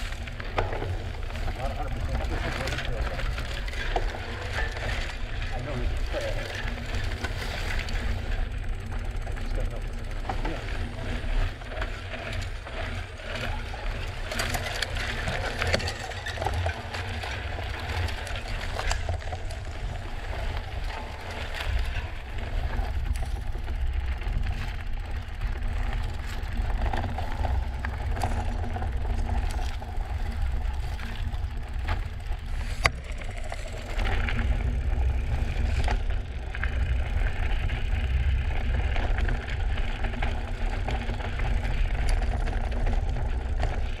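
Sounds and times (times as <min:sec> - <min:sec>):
steady low rumble: 0:00.0 - 0:15.7, 0:17.4 - 0:44.0
bike rattling and clicking: 0:00.0 - 0:44.0.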